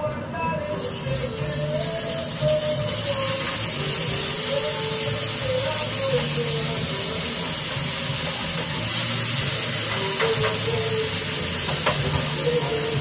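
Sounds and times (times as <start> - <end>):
quiet music: 0.0 - 13.0
food sizzling in a pan: 0.6 - 13.0.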